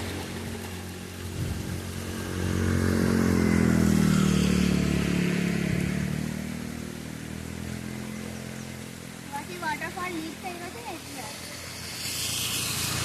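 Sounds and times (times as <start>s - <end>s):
engine passing by: 0.0s - 13.0s.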